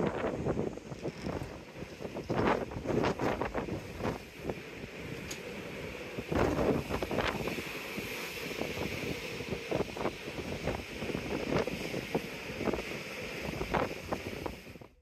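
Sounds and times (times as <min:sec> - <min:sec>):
ship rushing hum: 0:00.0 - 0:14.9
wind buffeting microphone: 0:00.0 - 0:15.0.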